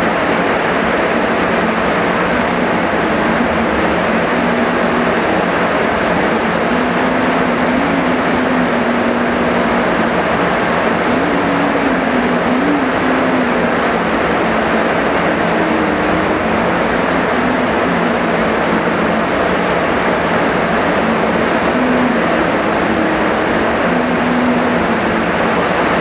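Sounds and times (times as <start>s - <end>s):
faint low wavering hum: 0.0s - 26.0s
heavy rain: 0.0s - 26.0s.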